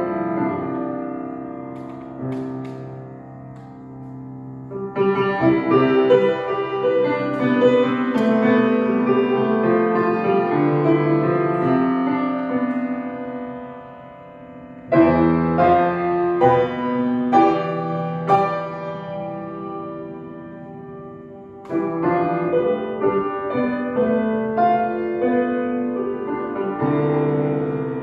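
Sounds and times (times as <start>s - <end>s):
grand piano chords: 0.0s - 28.0s.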